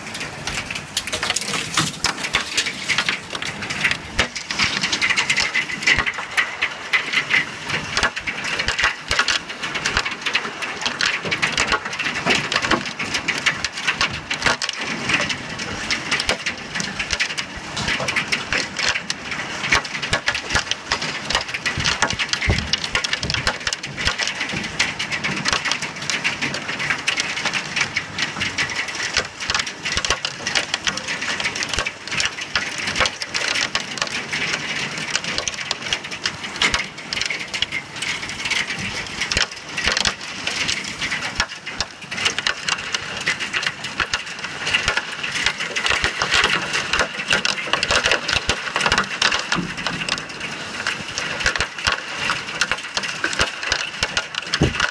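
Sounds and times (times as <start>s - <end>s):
hailstones pelting: 0.0s - 54.9s.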